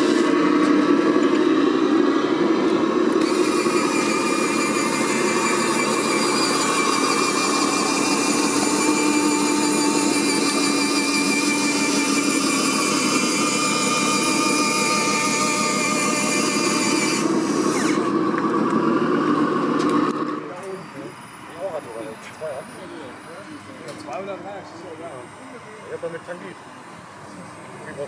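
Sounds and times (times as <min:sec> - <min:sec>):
small electric motors whining: 0:00.0 - 0:28.0.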